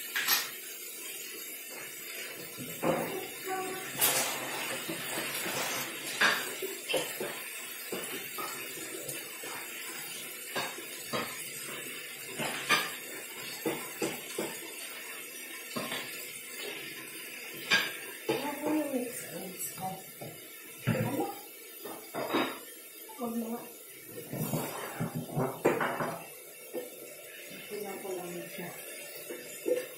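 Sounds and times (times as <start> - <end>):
utensils and dishes clinking: 0.0 - 23.4, 24.1 - 29.9
food sizzling in a wok: 0.0 - 29.9.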